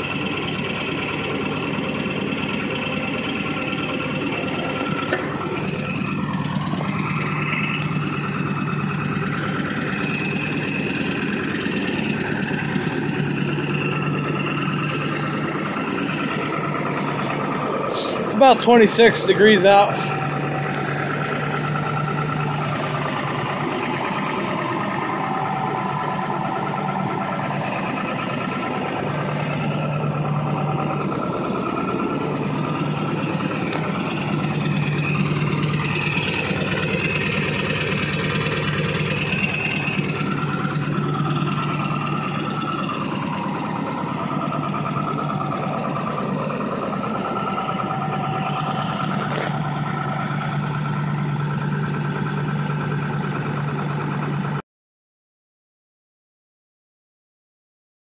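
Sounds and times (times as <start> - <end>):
diesel engine idling: 0.0 - 54.6.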